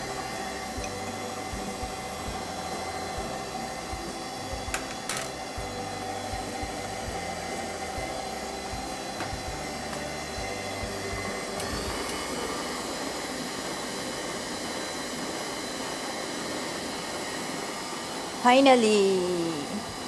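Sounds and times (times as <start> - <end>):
electric stand mixer running: 0.0 - 20.0.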